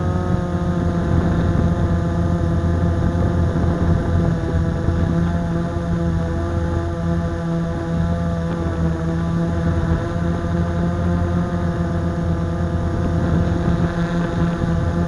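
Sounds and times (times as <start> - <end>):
quadcopter motors humming: 0.0 - 15.0.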